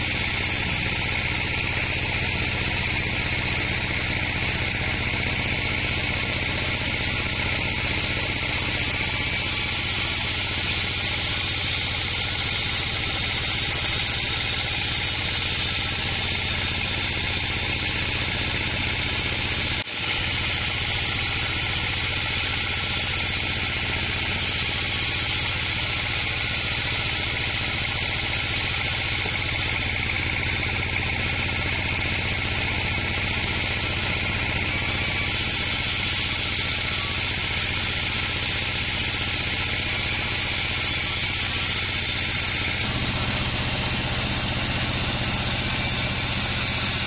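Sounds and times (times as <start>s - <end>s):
band saw cutting log: 0.0s - 47.0s
machine humming: 0.0s - 47.0s.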